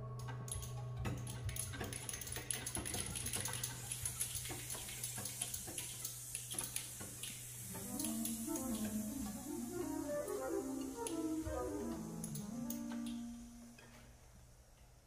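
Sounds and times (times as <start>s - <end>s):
ensemble clicks and taps: 0.2s - 14.1s.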